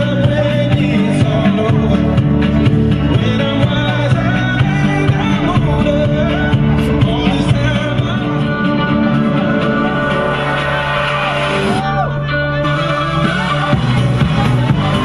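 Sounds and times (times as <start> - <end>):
song with band accompaniment: 0.0 - 15.0.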